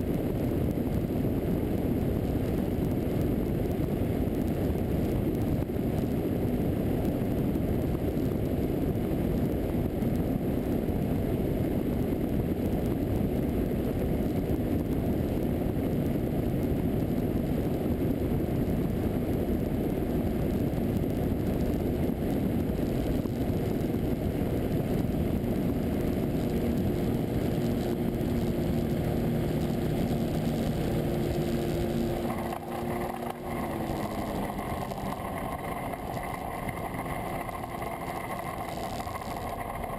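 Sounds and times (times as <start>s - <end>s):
aircraft engine running: 0.0s - 39.9s
wind rush over microphone: 0.0s - 39.9s.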